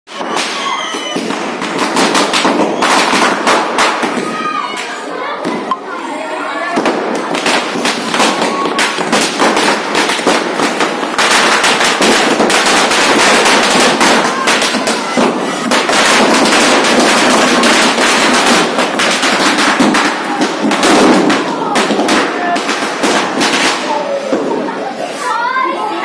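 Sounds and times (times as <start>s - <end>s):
firecrackers popping and crackling: 0.1s - 5.8s, 6.6s - 25.3s.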